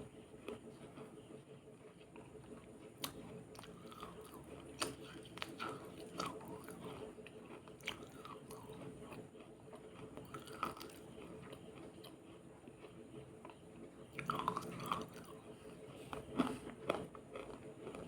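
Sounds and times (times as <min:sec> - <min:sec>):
biting and chewing crunchy food: 0:00.0 - 0:18.0.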